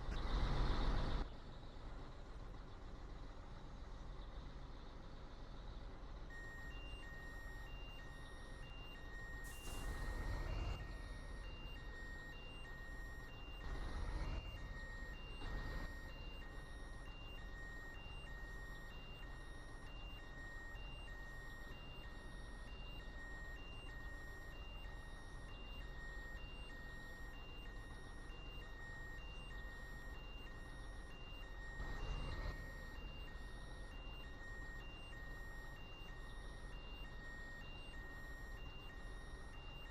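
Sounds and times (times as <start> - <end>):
truck reversing alarm beeping: 5.6 - 39.9.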